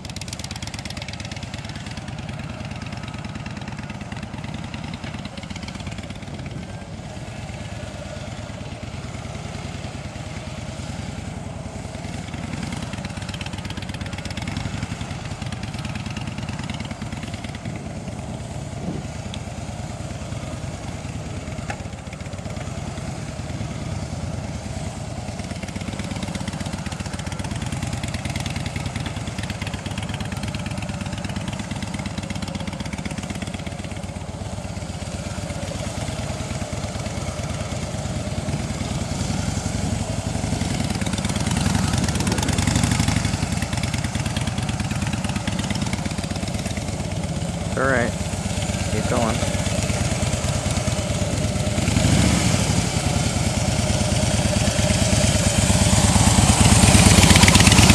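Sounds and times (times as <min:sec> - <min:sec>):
motorcycle engine at low speed: 0:00.0 - 0:57.9.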